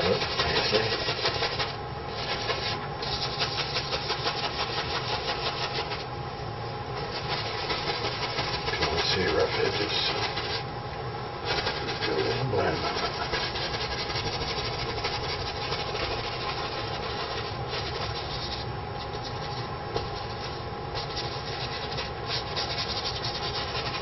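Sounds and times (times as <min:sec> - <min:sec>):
brush scrubbing paint on canvas: 0:00.0 - 0:06.1, 0:07.0 - 0:10.7, 0:11.4 - 0:24.0.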